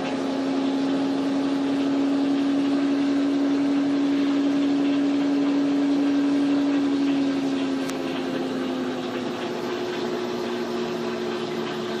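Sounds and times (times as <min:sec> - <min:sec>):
washing machine spin motor whine: 0:00.0 - 0:12.0.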